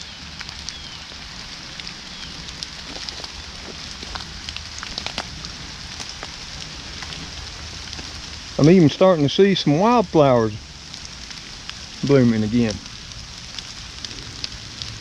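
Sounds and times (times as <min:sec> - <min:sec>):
raindrops ticking nearby: 0:00.0 - 0:15.0
steady rain hiss: 0:00.0 - 0:15.0.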